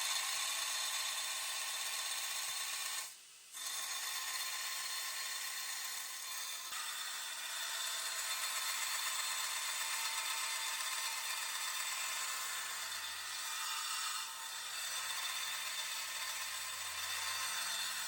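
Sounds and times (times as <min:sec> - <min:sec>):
power tool grinding: 0:00.0 - 0:18.0.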